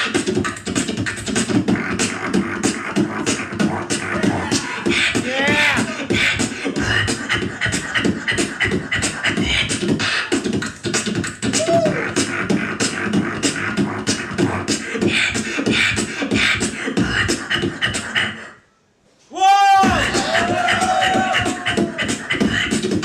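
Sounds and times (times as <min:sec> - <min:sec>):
beatboxing vocal percussion: 0:00.0 - 0:18.6, 0:19.8 - 0:23.0.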